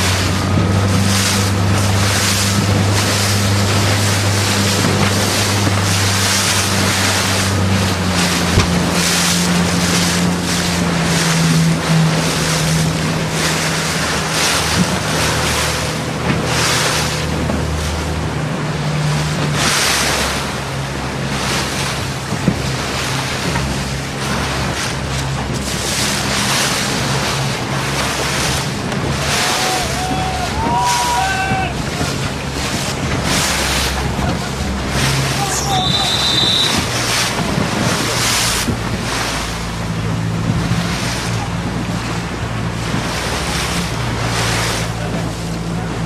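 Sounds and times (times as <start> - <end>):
boat engine droning: 0.0 - 46.0
water rushing past boat hull: 0.0 - 46.0
wind buffeting microphone: 0.0 - 46.0.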